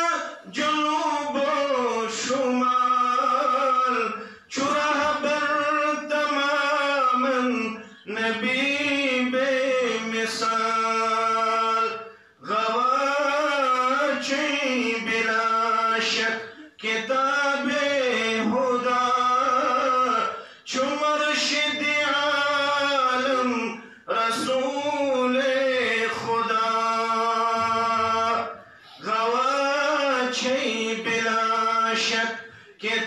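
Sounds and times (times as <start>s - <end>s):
man chanting: 0.0s - 33.0s.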